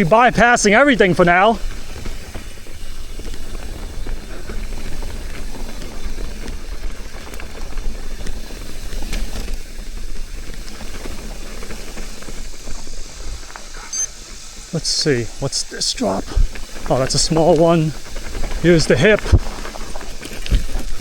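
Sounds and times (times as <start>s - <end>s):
bike rattling over bumps: 0.0s - 21.0s
tyre noise on dirt: 0.0s - 21.0s.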